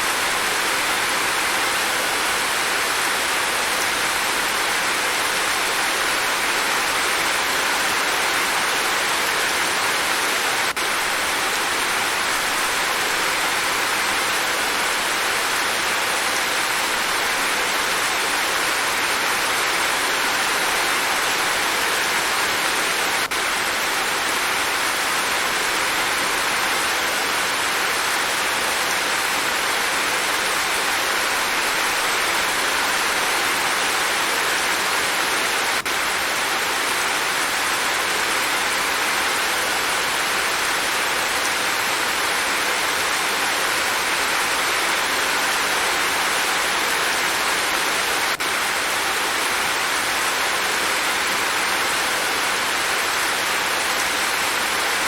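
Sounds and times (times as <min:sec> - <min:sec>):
dense rainfall: 0:00.0 - 0:55.0.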